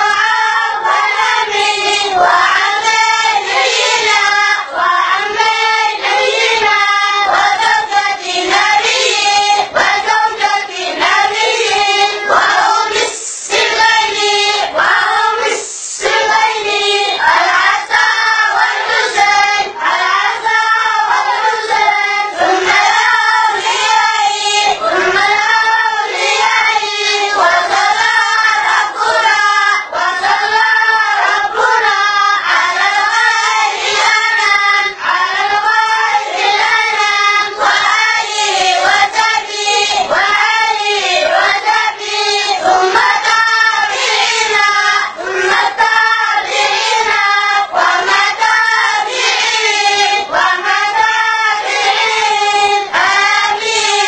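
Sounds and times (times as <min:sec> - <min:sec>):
boys chanting in unison: 0:00.0 - 0:54.0.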